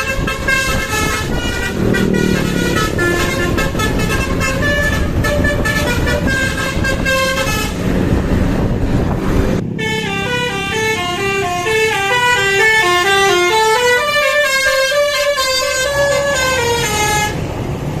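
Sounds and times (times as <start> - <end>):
bus horn playing a tune: 0.0 - 8.2, 9.7 - 17.5
engine rumble: 0.0 - 18.0.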